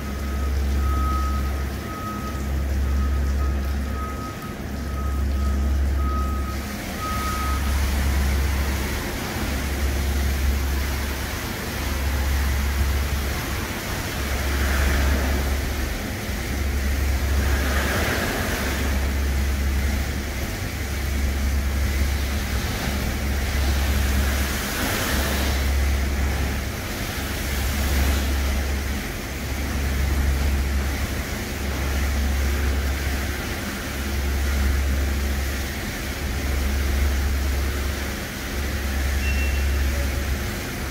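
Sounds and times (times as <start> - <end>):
low machine hum: 0.0 - 40.9
water spray hissing: 6.5 - 40.8.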